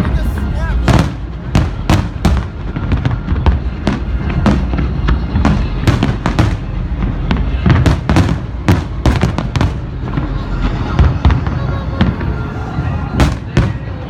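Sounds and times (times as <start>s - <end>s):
fireworks bursting: 0.0s - 14.0s
low rumble: 0.0s - 14.0s.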